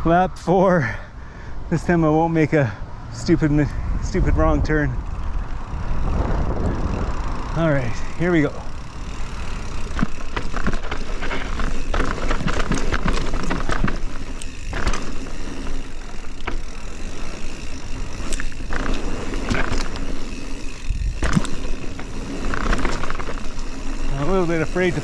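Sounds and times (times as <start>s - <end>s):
bike chain and frame rattling: 3.4s - 25.0s
bike tyres rolling over dirt: 3.4s - 25.0s.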